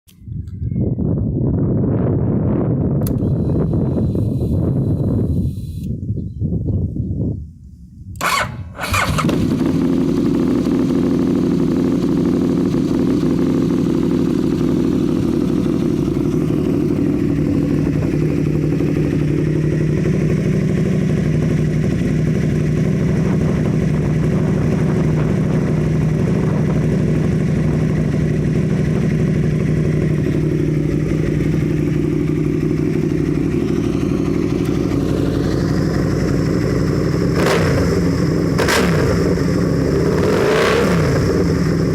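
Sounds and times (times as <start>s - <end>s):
motorcycle engine starting and idling: 2.7s - 6.0s, 8.1s - 41.9s.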